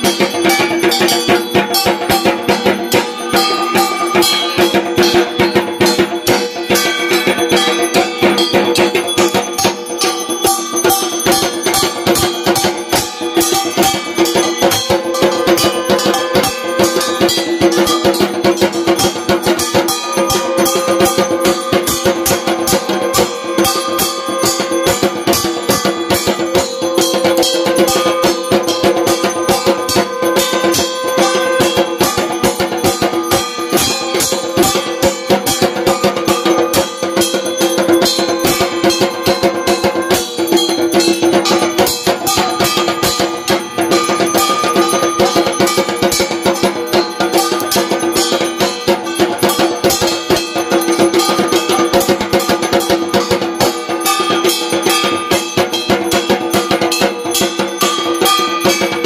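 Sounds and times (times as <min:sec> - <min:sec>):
fast steady percussion: 0:00.0 - 0:59.0.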